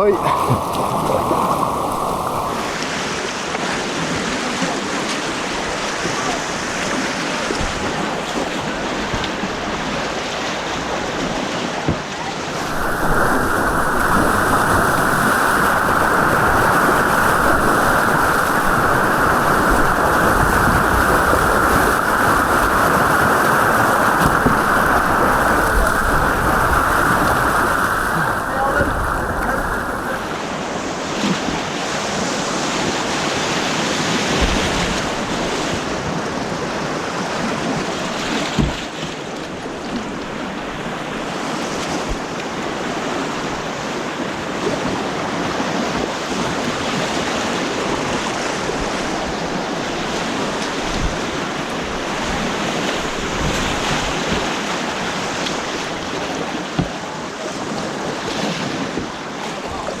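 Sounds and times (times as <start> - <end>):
rushing white water: 0.0 - 60.0.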